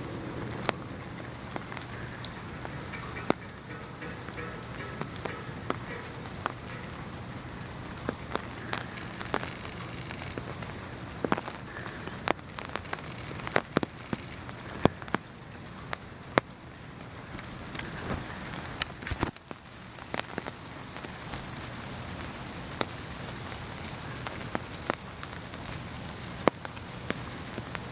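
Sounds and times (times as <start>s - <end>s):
rain falling: 0.0s - 27.9s
raindrops striking close by: 0.0s - 27.9s.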